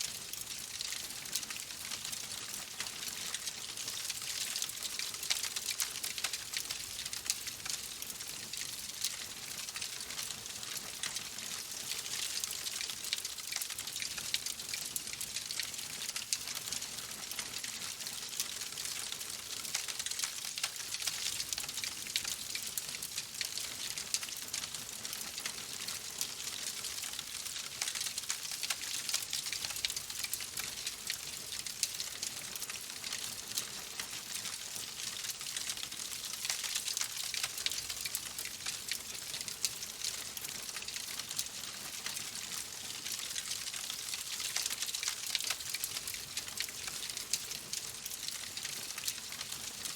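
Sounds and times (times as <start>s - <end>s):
fireplace fire crackling: 0.1s - 49.9s.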